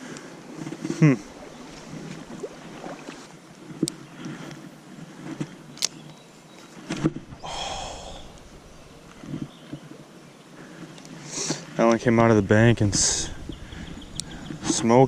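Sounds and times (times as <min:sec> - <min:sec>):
creek water running: 0:00.0 - 0:05.3, 0:07.4 - 0:15.0.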